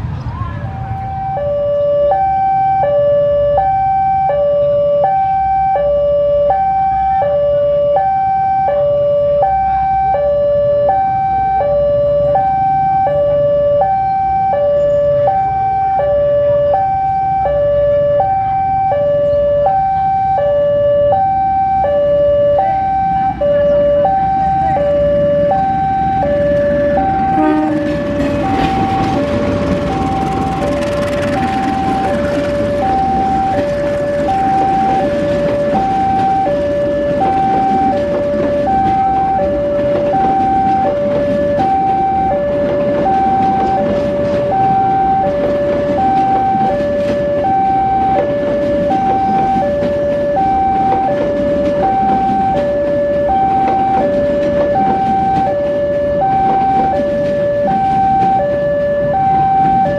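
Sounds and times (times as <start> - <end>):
level crossing two-tone alarm: 0.9 - 59.9.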